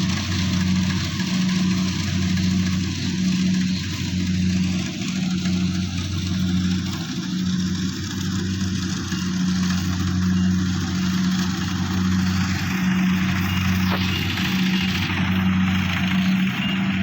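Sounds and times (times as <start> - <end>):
harvester engine running: 0.0 - 17.0.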